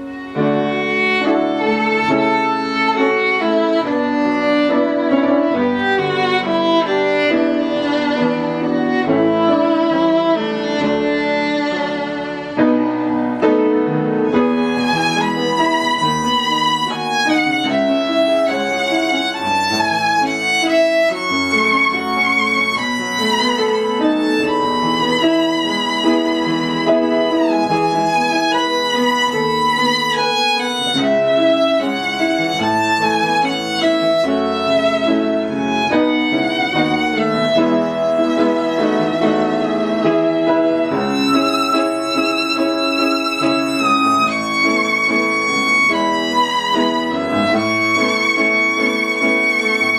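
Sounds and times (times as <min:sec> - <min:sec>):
violin melody with accompaniment: 0:00.0 - 0:49.9.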